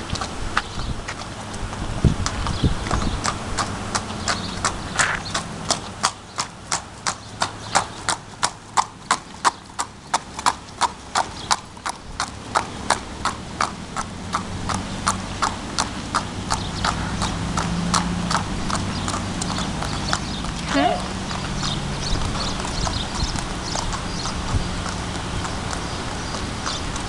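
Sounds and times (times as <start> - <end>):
horse hooves clip-clopping: 0.0 - 27.0.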